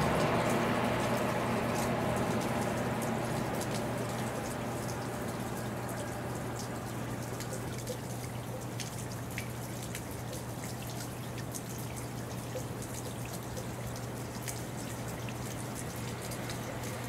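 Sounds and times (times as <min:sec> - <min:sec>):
drops ticking: 0:00.0 - 0:17.0
rain falling: 0:00.0 - 0:17.0.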